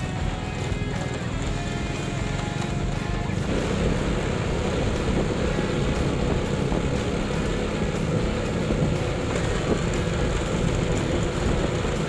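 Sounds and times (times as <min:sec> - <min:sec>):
small motorbike engine running: 0:00.0 - 0:12.0.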